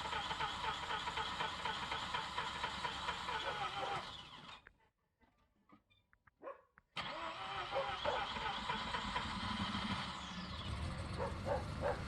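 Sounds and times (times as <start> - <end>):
engine running: 0.0 - 4.6, 7.0 - 12.0.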